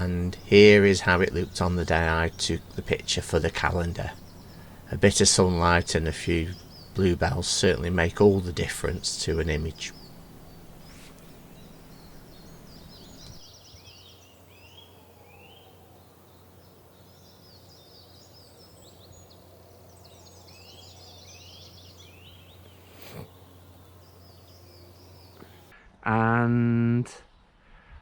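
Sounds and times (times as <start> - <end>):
songbirds chirping: 0.0 - 25.7
low steady hum: 0.0 - 25.8.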